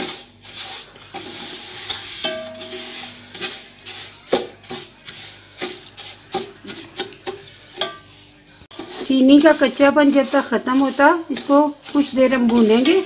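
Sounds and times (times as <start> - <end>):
spatula scraping steel pot: 0.0 - 13.0
sugar hissing in oil: 0.0 - 13.0.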